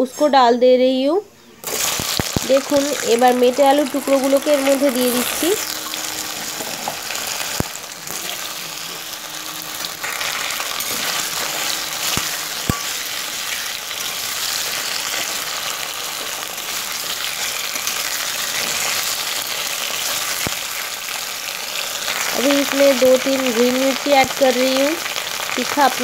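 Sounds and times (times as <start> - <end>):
yam sizzling in hot oil: 1.6 - 26.0.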